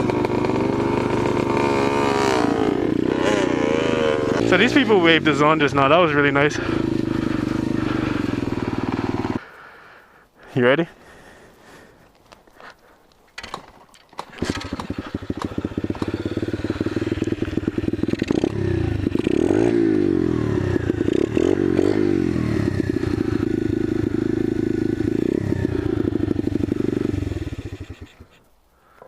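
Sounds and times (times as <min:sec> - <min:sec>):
dirt bike engine revving: 0:00.0 - 0:09.4, 0:14.2 - 0:28.2.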